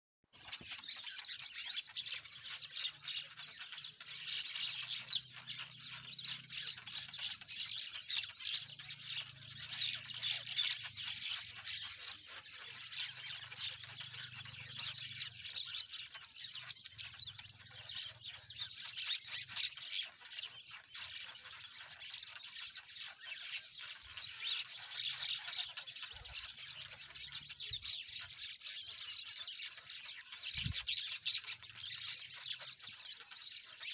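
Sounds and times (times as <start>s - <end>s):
birds chirping chorus: 0.3s - 33.9s.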